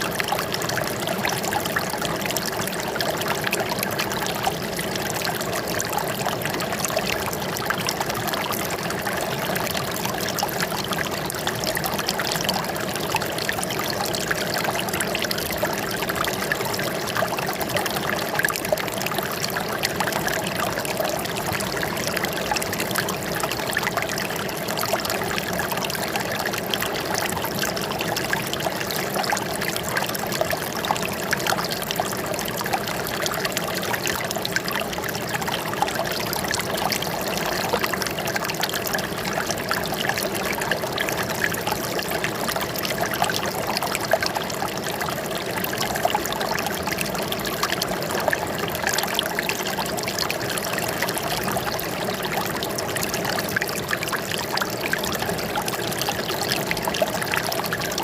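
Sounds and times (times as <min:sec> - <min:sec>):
water trickling over stones: 0:00.0 - 0:58.0.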